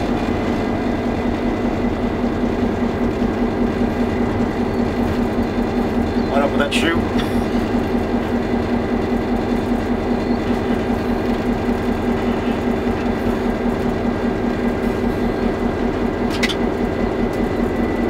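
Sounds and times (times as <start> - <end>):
locomotive engine droning: 0.0 - 18.0.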